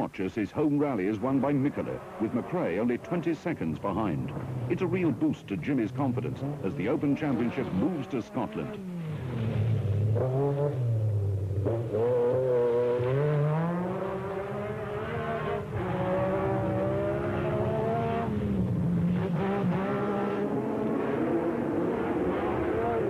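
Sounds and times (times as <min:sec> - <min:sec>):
rally car engine revving: 0:00.8 - 0:23.0.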